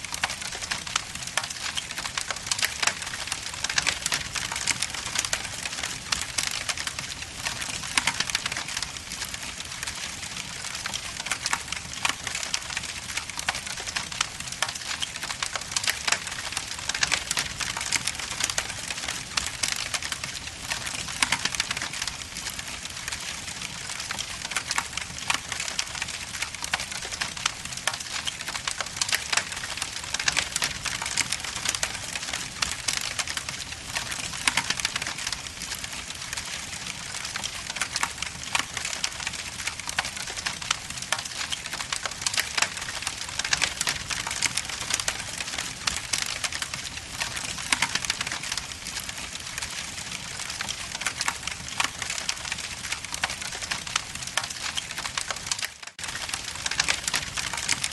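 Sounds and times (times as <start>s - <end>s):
wood logs crackling in fireplace: 0.0s - 57.9s.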